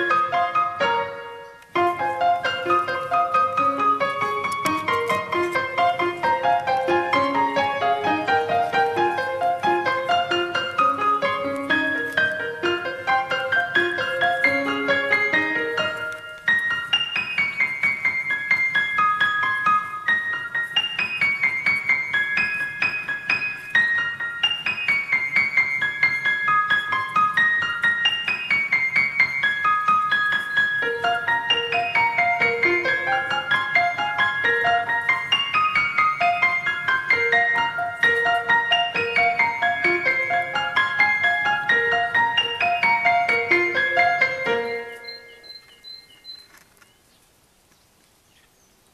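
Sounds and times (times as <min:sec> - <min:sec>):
piano music: 0:00.0 - 0:46.5.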